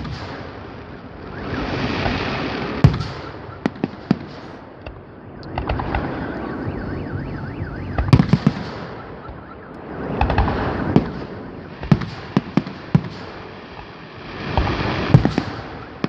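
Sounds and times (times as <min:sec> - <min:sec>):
fireworks bangs and crackling: 0:00.0 - 0:16.0
warbling firework whistle: 0:00.0 - 0:16.0.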